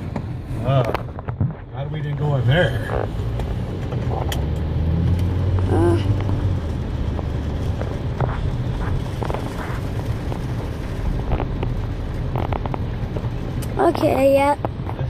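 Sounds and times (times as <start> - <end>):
engine and road hum: 0.0 - 15.0.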